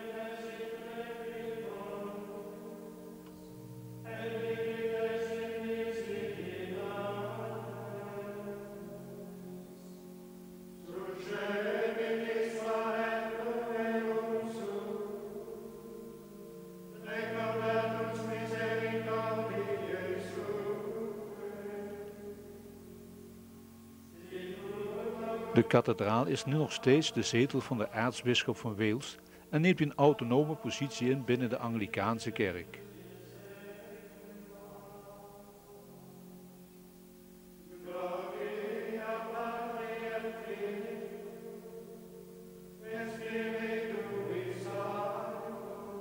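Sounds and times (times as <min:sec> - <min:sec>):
choral chant singing: 0:00.0 - 0:36.7, 0:37.7 - 0:46.0.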